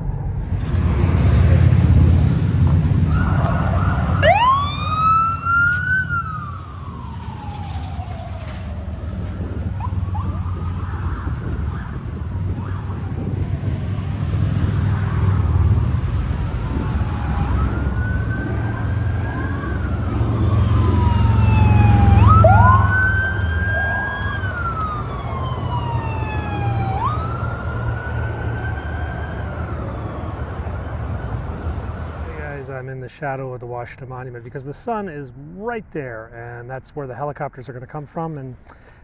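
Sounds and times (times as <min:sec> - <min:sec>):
emergency sirens wailing: 0:00.0 - 0:32.4
passing vehicles rumbling: 0:00.0 - 0:37.9.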